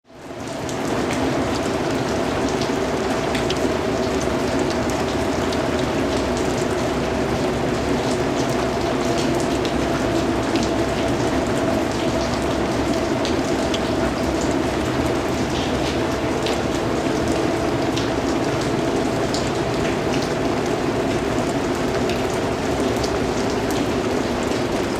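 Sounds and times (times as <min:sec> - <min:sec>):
rain drops tapping: 0:00.1 - 0:24.9.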